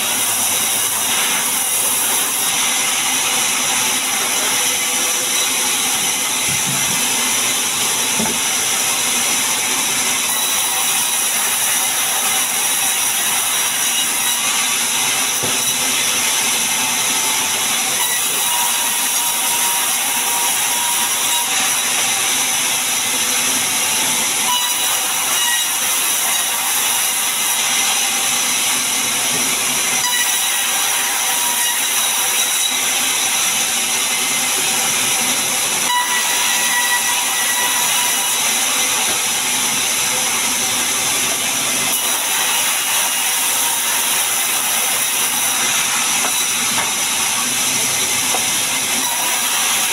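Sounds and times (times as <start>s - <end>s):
band saw cutting through log: 0.0s - 49.9s.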